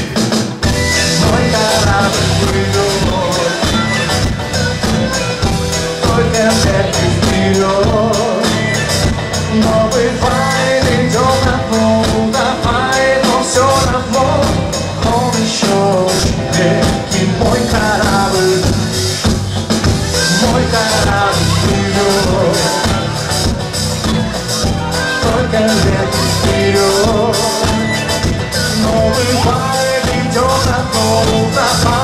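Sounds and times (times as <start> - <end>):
drums keeping a beat: 0.0 - 32.0
electric bass: 0.0 - 32.0
man singing: 0.0 - 32.0.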